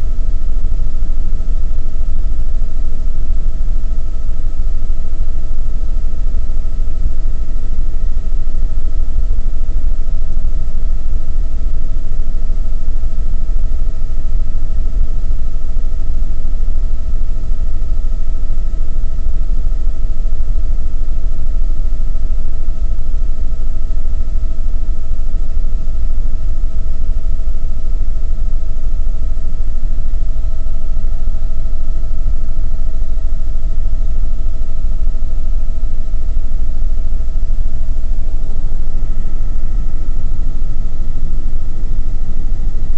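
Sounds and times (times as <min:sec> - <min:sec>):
constant whine: 0:00.0 - 0:42.9.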